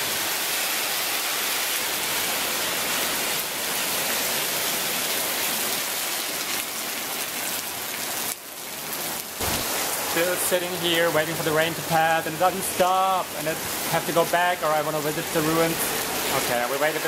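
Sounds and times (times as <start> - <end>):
heavy rain on wet road: 0.0 - 17.0.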